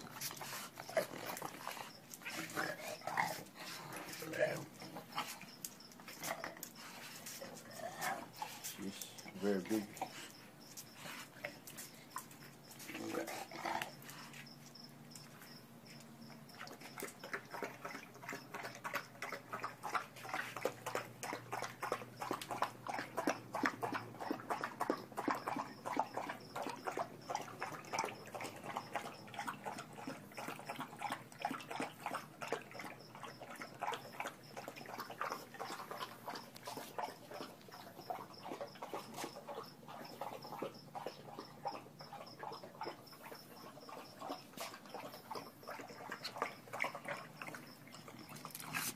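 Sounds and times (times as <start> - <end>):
dog snorting and snuffling: 0.0 - 14.6, 16.5 - 48.9.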